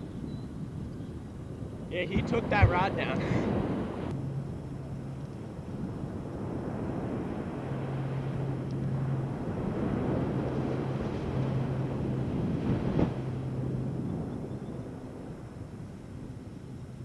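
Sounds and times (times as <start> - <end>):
low steady drone: 0.0 - 17.0
wind noise: 0.0 - 17.0
rushing surf: 1.9 - 16.4.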